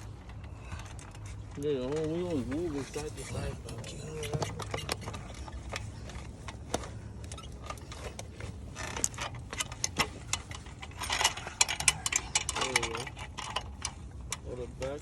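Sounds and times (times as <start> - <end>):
metal clinks and rattles: 0.0 - 15.0.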